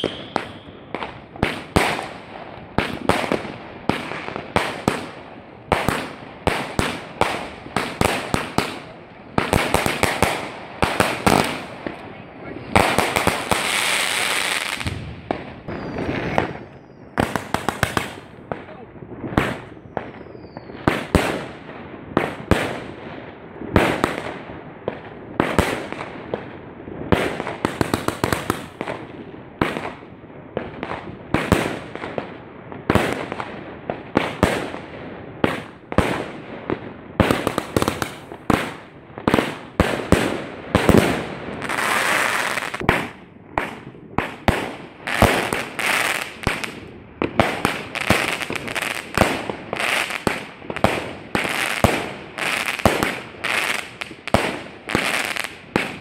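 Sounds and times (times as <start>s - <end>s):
fireworks rushing burst: 0.0s - 26.4s, 34.0s - 56.0s
fireworks exploding: 0.0s - 56.0s.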